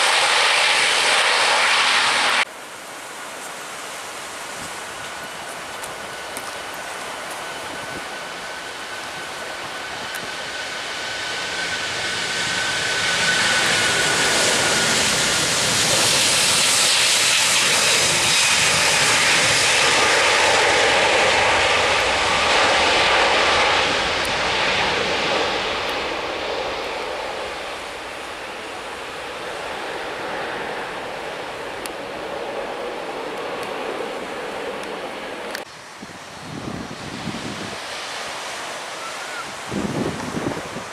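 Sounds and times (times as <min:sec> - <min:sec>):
jet airliner passing by: 0:00.0 - 0:40.9.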